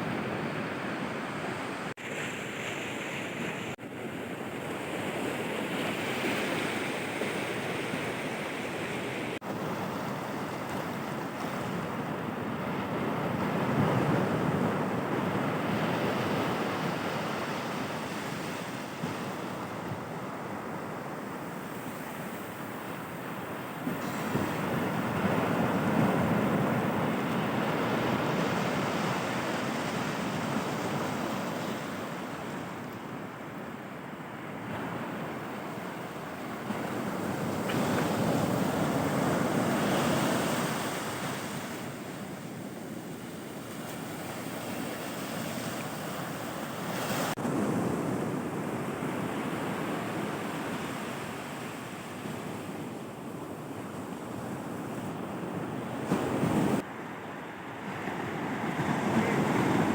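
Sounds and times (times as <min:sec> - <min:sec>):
sea surf washing up beach: 0:00.0 - 0:59.9.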